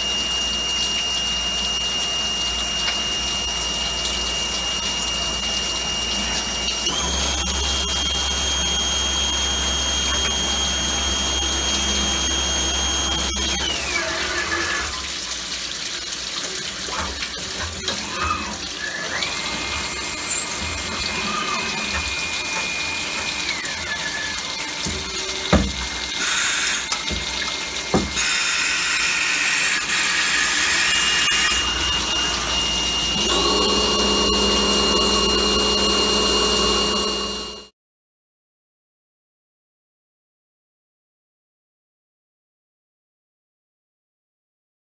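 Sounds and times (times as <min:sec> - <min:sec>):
high machine whine: 0:00.0 - 0:15.2, 0:16.9 - 0:37.7.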